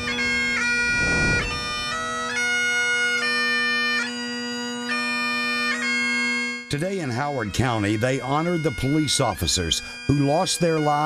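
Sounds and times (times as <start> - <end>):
bagpipes playing a tune: 0.0 - 11.0.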